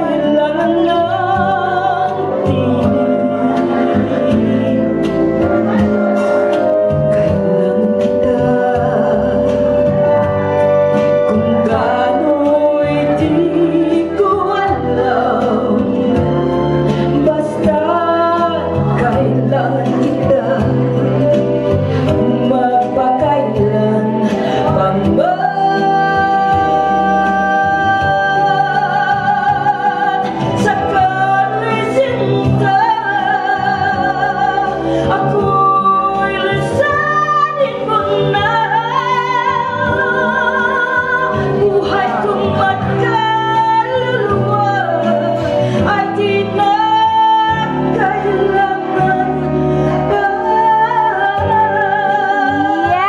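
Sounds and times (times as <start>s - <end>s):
backing music: 0.0s - 53.0s
woman singing a ballad: 0.0s - 53.0s.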